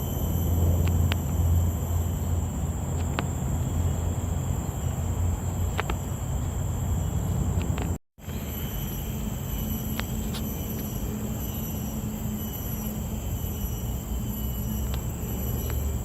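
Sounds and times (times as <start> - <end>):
insects trilling: 0.0 - 16.0
low rumble: 0.0 - 16.0.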